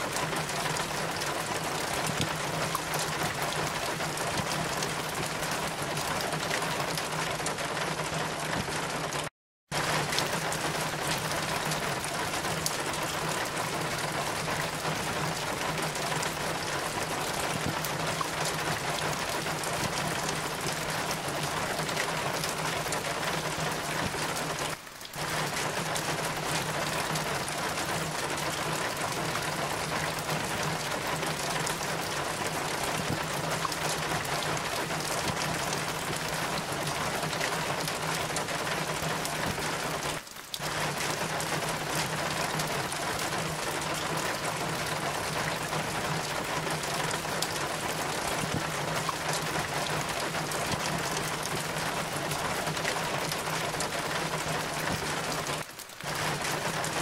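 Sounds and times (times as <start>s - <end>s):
rain falling: 0.0s - 57.0s
water dripping down rain chain: 0.0s - 57.0s.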